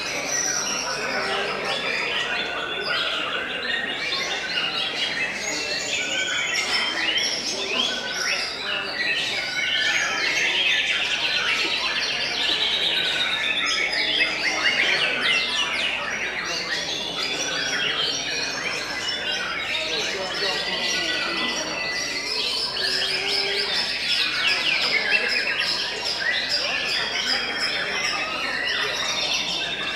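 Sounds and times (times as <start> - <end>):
birds singing whistles and trills: 0.0 - 29.9.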